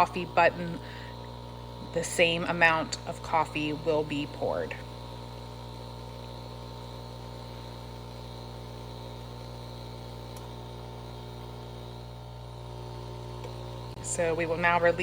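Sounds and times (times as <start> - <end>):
espresso machine pump humming: 0.0 - 15.0.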